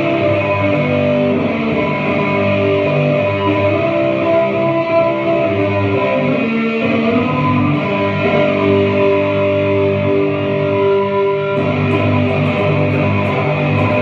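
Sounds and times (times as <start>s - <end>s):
instrumental music with held notes: 0.0s - 14.0s.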